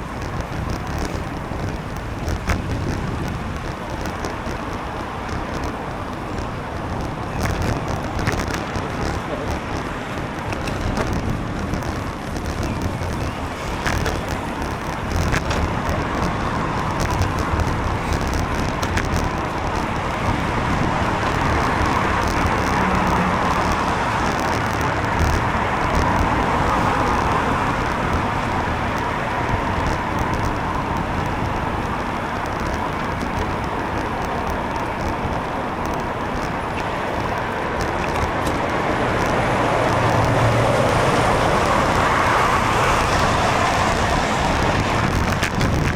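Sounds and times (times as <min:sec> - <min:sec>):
cars passing close by: 0:00.0 - 0:45.9
tyres hissing on wet tarmac: 0:00.0 - 0:45.9.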